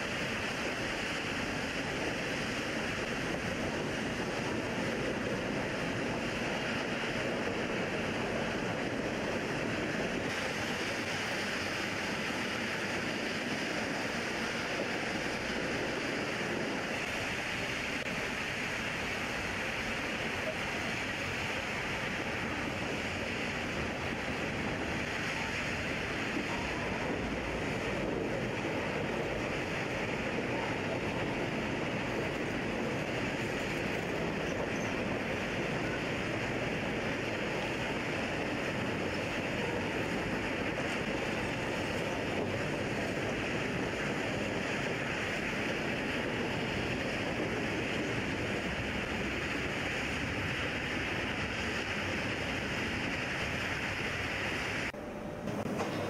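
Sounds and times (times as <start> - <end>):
train running noise: 0.0 - 56.0
wind on microphone: 0.0 - 56.0.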